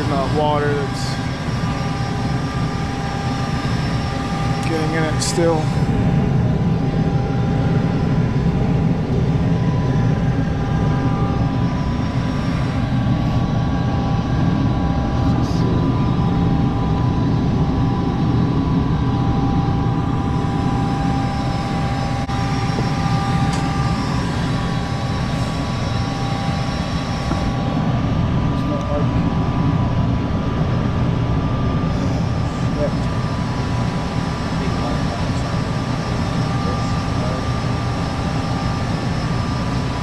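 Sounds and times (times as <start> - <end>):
faint steady whine: 0.0 - 40.0
furnace burners and fan rumbling: 0.0 - 40.0.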